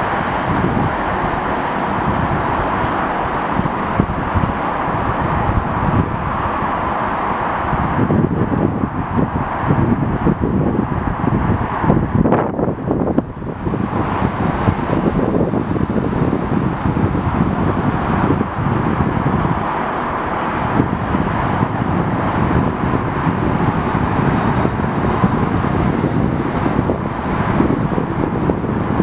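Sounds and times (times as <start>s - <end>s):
outdoor rumble: 0.0s - 29.0s
wind buffeting microphone: 0.0s - 29.0s.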